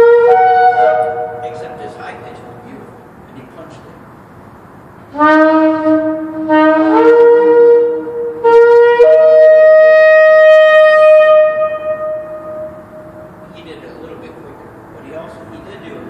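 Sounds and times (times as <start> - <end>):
horns blown in long blasts: 0.0 - 3.0, 5.0 - 16.0.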